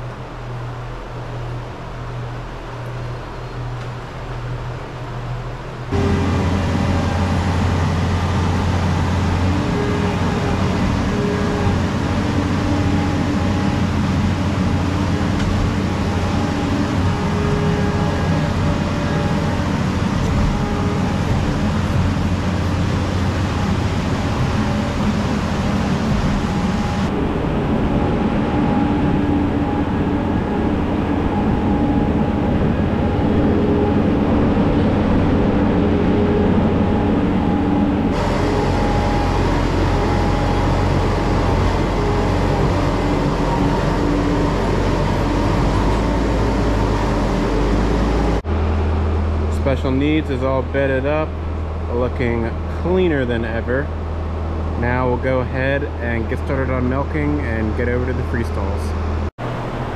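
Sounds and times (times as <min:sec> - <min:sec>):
farm machine engine running: 0:05.7 - 0:59.9.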